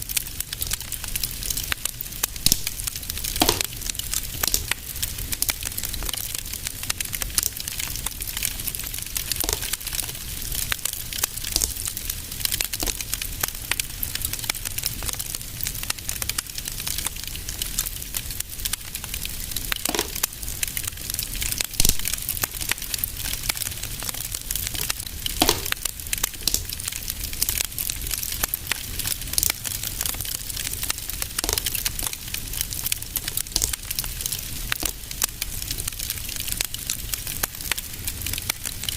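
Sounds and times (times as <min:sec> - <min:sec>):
fire crackling: 0:00.0 - 0:38.9
low rumble of fire: 0:00.0 - 0:38.9
loud fire pops: 0:00.1 - 0:38.9.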